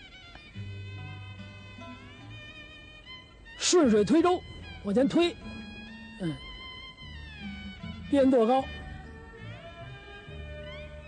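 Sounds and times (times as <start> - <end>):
bowed string instrument: 0.0 - 11.0.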